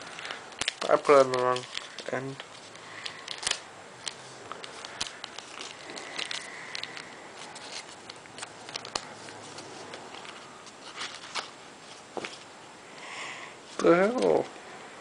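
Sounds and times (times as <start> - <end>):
paper crinkling: 0.0 - 12.5.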